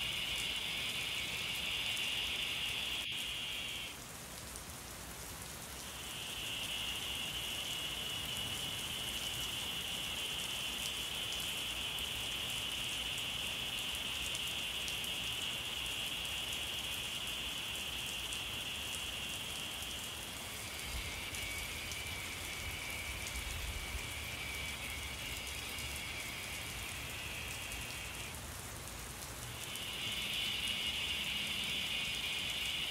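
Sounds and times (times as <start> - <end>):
cicadas droning: 0.0 - 32.9.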